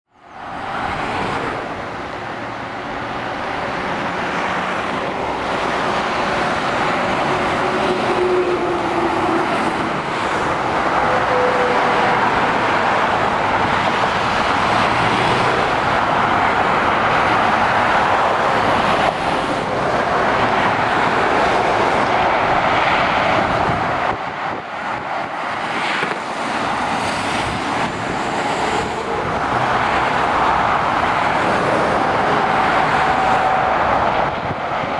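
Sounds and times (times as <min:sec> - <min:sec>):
tyres rushing on motorway: 0:00.1 - 0:34.9.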